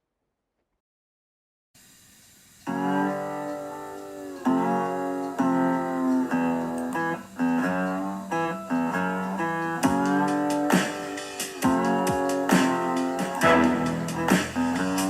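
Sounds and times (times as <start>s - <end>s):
guitar chords ringing: 2.7s - 15.0s.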